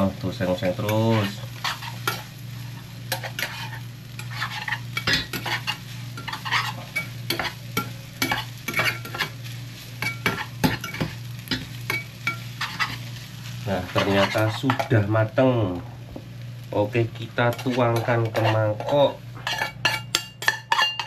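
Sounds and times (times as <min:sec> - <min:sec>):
noodles sizzling: 0:00.0 - 0:21.0
steady low hum: 0:00.0 - 0:21.0
utensil scraping frying pan: 0:00.5 - 0:15.1, 0:17.2 - 0:21.0.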